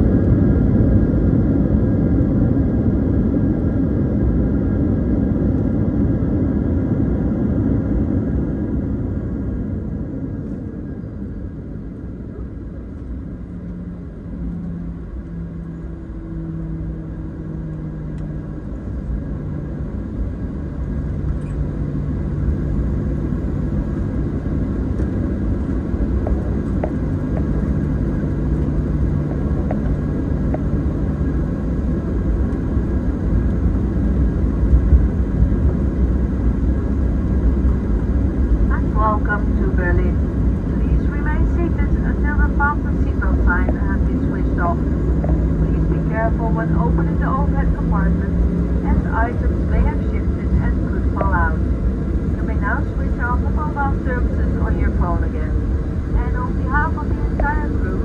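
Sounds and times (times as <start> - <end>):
jet cabin engine rumble: 0.0 - 58.0.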